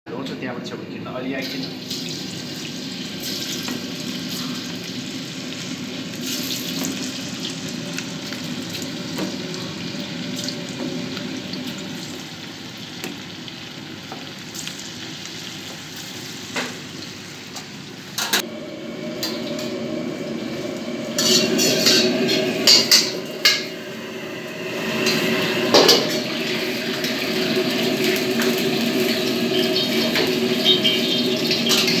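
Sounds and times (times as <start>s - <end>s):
food sizzling in a wok: 1.4s - 32.0s.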